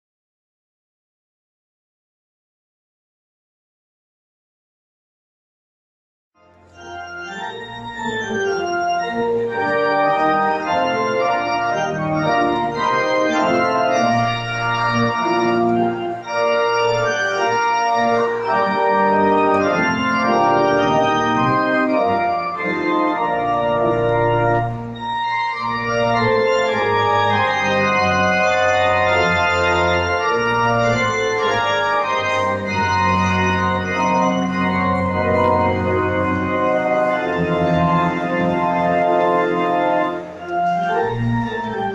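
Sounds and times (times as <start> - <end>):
pipe organ chords: 6.4 - 41.9.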